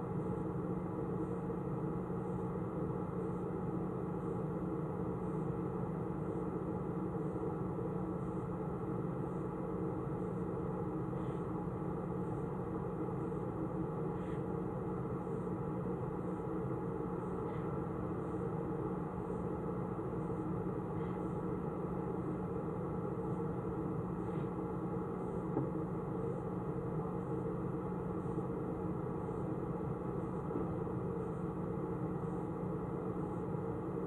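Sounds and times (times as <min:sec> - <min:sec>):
steady hum with low tones: 0:00.0 - 0:34.0.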